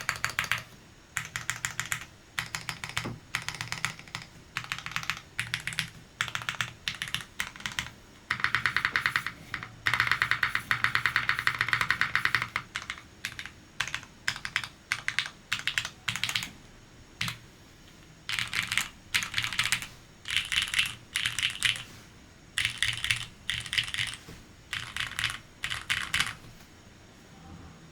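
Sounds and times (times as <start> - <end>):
mechanical keyboard typing: 0.0 - 16.5, 17.2 - 17.4, 18.3 - 21.9, 22.6 - 26.5.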